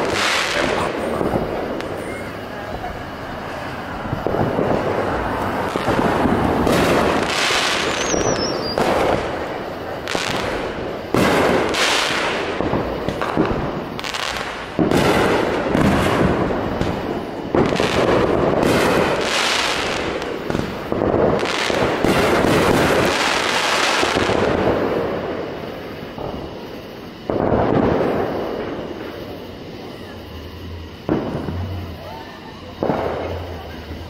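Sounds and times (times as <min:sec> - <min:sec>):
firework shells bursting: 0:00.0 - 0:32.0
fireworks crackling: 0:00.0 - 0:34.0.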